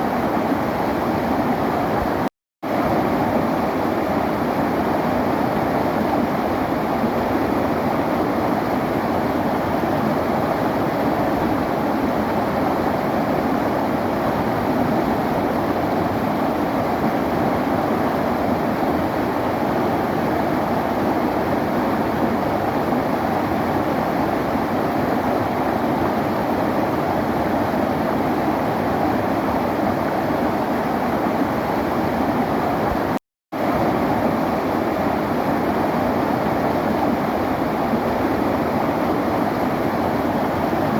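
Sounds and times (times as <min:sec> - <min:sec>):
river flowing: 0:00.0 - 0:40.9.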